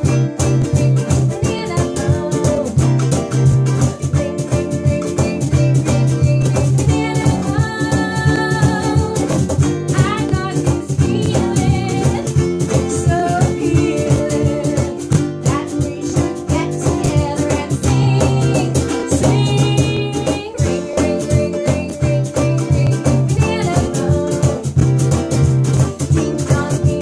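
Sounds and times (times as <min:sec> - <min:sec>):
woman singing: 0:00.0 - 0:03.1, 0:04.0 - 0:24.9, 0:26.0 - 0:27.0
cajon beat: 0:00.0 - 0:27.0
strummed acoustic guitars: 0:00.0 - 0:27.0
ukulele: 0:00.0 - 0:27.0.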